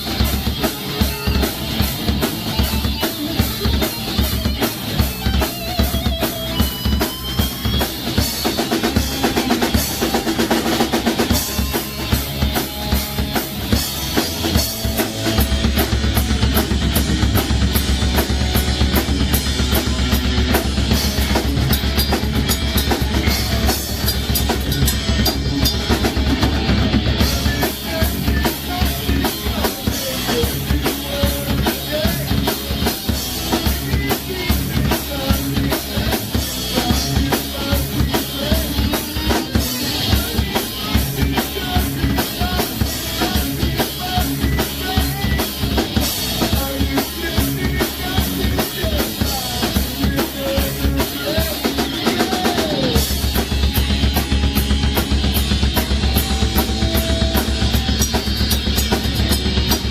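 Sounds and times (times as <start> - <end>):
bass drum and snare: 0.0 - 59.9
heavy rock band playing: 0.0 - 59.9.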